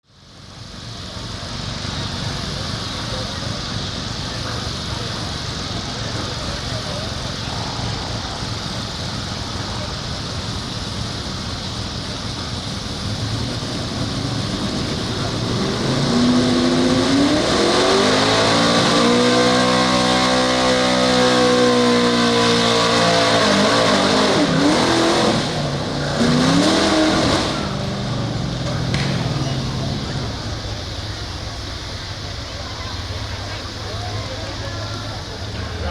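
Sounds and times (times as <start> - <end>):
truck engine revving hard: 0.3 - 35.9.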